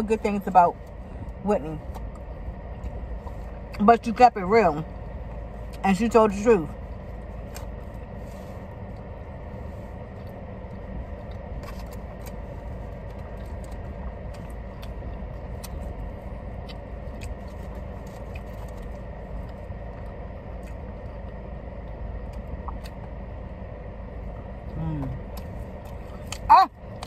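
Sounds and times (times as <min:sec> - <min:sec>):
low car interior hum: 0:00.0 - 0:27.0.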